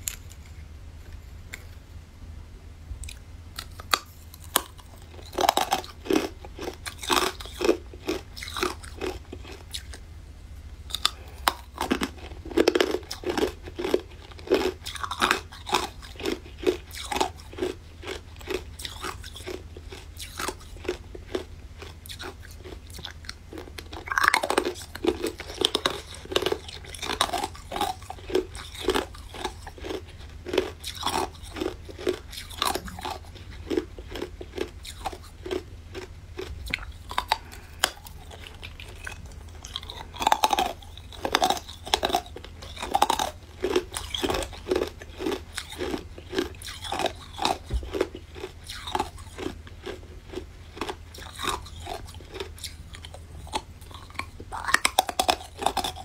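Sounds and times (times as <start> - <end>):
crunching on frozen ice treats: 3.0 - 10.1, 10.9 - 56.0.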